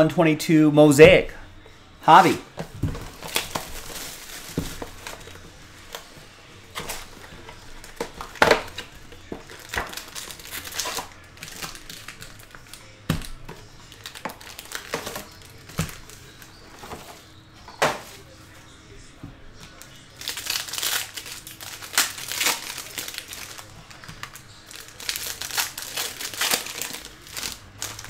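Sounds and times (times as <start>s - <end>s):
plastic wrap crinkling: 2.2s - 18.3s, 19.6s - 28.0s.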